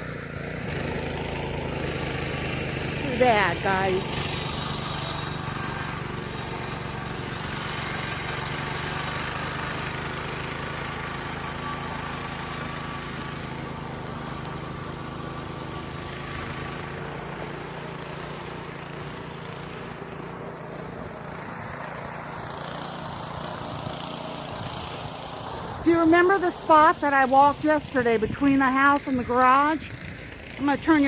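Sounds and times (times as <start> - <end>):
snow blower engine running: 0.0 - 31.0.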